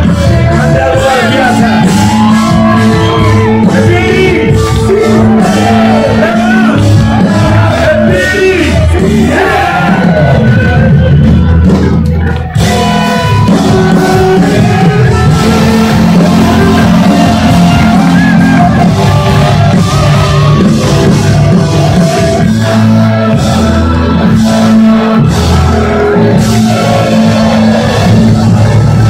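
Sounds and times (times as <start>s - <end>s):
live rock band playing: 0.0s - 29.0s
person singing and shouting: 0.0s - 29.0s.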